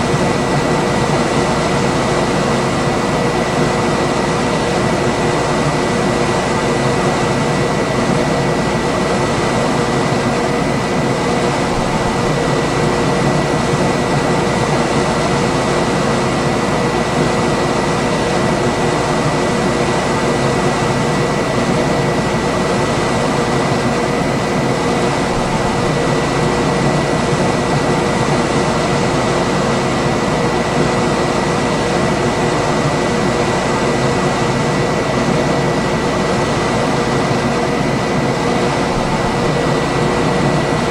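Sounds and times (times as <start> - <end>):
air conditioner fan rushing: 0.0 - 40.9
faint hum and whine: 0.0 - 40.9.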